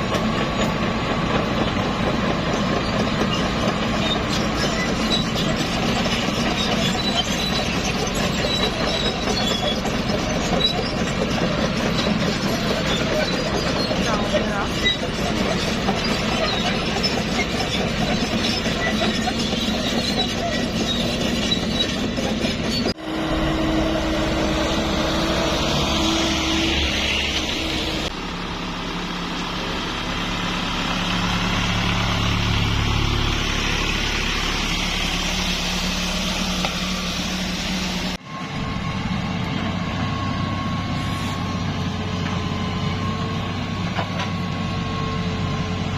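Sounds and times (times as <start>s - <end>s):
heavy construction machinery: 0.0s - 45.9s
truck engines running: 0.0s - 45.9s.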